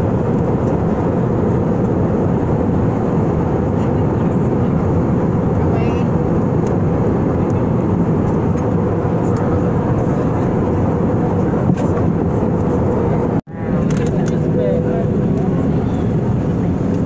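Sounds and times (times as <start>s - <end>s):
airliner cabin noise: 0.0s - 17.0s.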